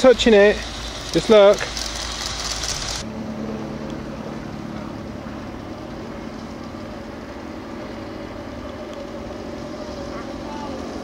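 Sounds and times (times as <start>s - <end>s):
outdoor background noise: 0.0s - 11.0s
steady motor drone: 0.0s - 11.0s.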